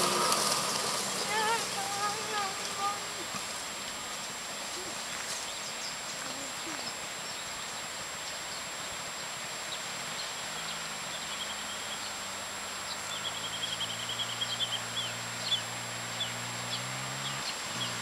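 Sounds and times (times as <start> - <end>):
distant motorbike engine: 0.0 - 8.2, 8.9 - 18.0
birds chirping: 0.0 - 18.0.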